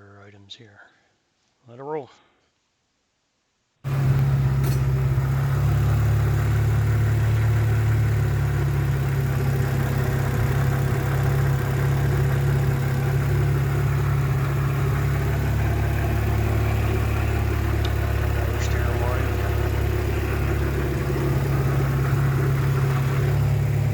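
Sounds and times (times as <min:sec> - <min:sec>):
car engine idling: 0:03.9 - 0:23.9.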